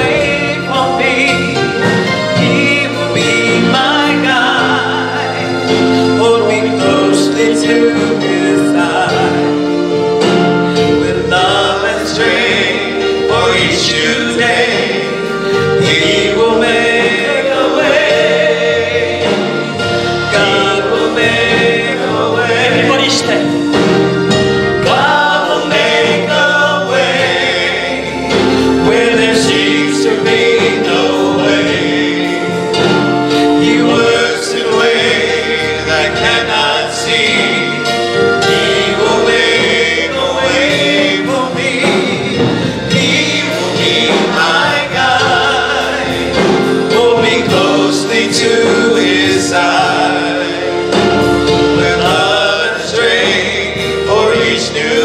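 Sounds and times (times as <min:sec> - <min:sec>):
gospel choir singing: 0:00.0 - 0:55.0
instrumental accompaniment: 0:00.0 - 0:55.0.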